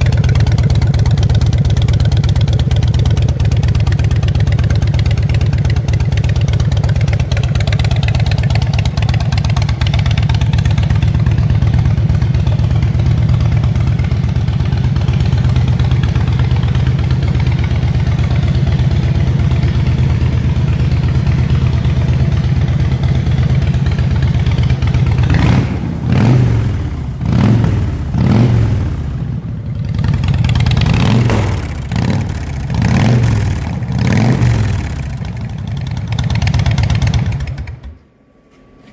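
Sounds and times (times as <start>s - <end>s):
motorcycle engine idling: 0.0s - 38.0s
motorcycle engine revving: 0.0s - 38.0s.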